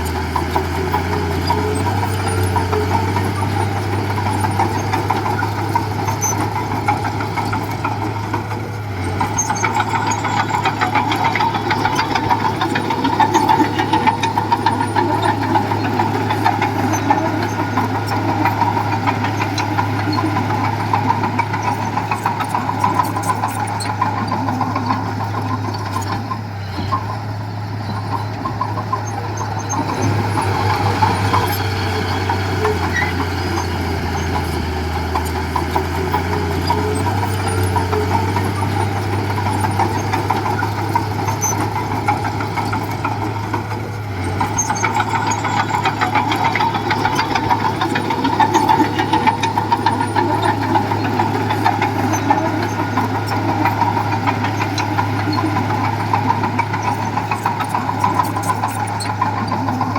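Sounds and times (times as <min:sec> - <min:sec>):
diesel engine humming: 0:00.0 - 0:59.9
rapid mechanical chatter: 0:00.0 - 0:59.9.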